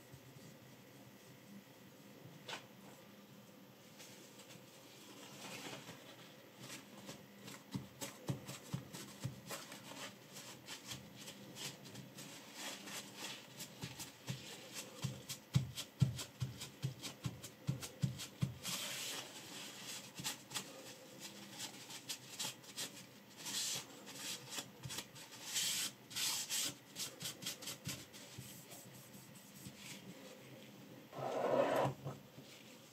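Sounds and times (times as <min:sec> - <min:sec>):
paper towel rubbing and rustling: 0:03.9 - 0:30.6.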